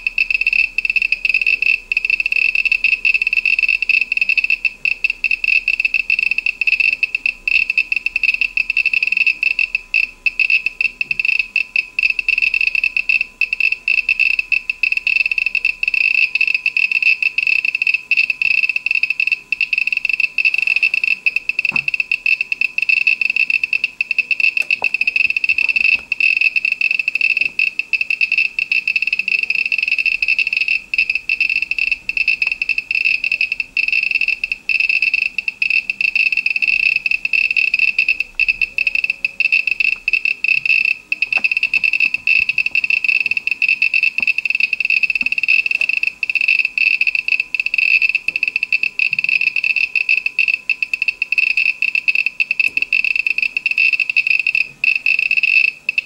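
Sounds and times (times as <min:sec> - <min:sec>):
geiger counter rapid beeps: 0:00.0 - 0:56.0.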